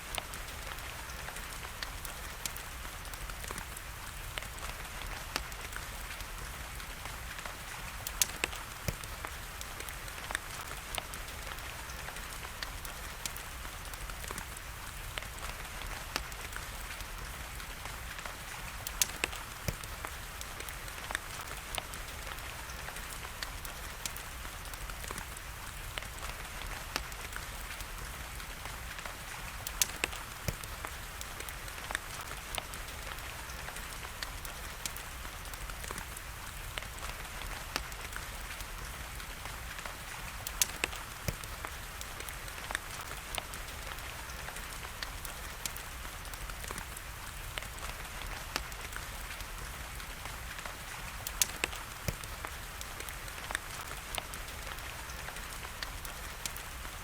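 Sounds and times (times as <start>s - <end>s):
steady rain: 0.0s - 57.0s
wood fire crackling and popping: 0.0s - 57.0s.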